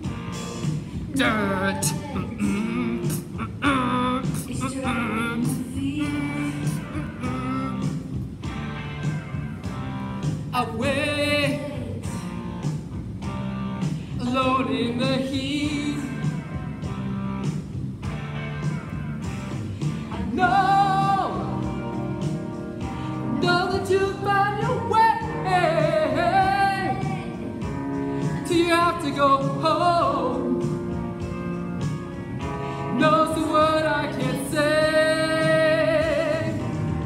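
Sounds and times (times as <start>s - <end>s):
song with person singing: 0.0s - 8.6s, 10.2s - 12.8s, 13.8s - 17.0s, 19.4s - 37.0s.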